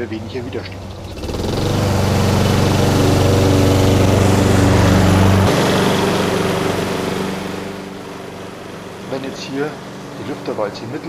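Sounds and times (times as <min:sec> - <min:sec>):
mower engine running: 0:00.0 - 0:11.0.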